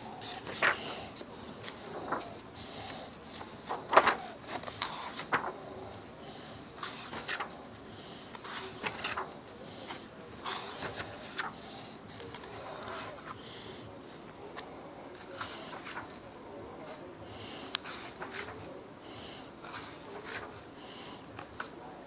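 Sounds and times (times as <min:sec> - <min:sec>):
book pages turning: 0:00.0 - 0:13.4, 0:14.4 - 0:18.8, 0:19.6 - 0:21.8.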